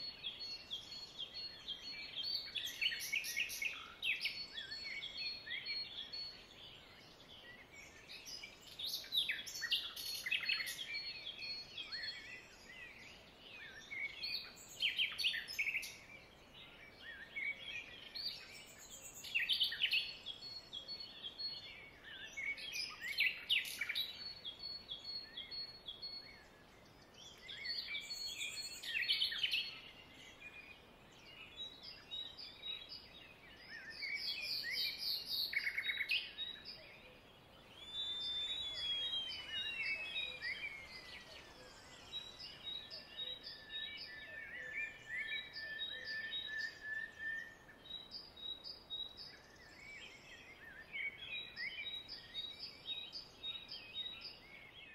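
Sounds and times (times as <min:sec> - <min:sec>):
birds chirping and trilling: 0:00.0 - 0:54.9
faint steady hiss: 0:00.0 - 0:54.9.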